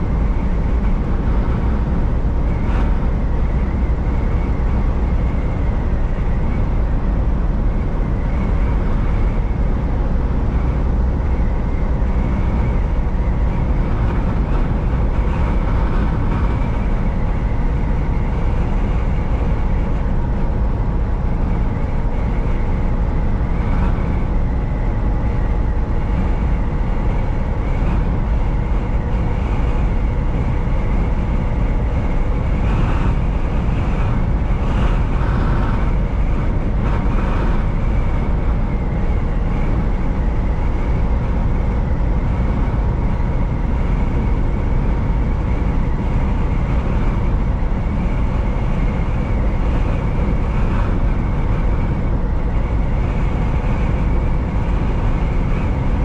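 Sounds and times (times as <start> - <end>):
faint constant hum: 0.0 - 56.0
truck engine drone: 0.0 - 56.0.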